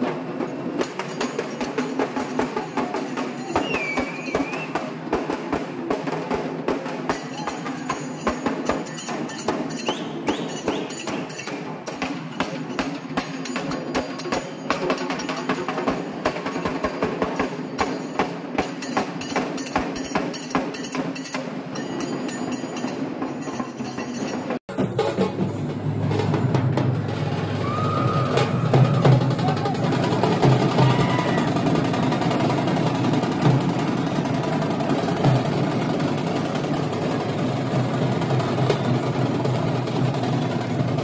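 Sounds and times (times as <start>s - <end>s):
crowd noise: 0.0s - 18.6s, 24.7s - 41.0s
fast festival drumming: 0.0s - 41.0s.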